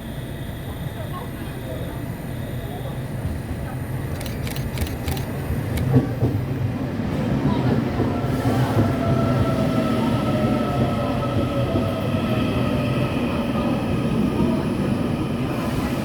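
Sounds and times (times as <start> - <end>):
train wheels rumbling: 3.1 - 16.0.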